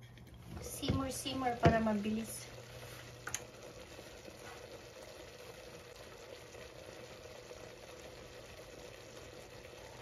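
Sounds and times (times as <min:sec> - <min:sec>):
sauce bubbling in a skillet: 0:00.3 - 0:10.0.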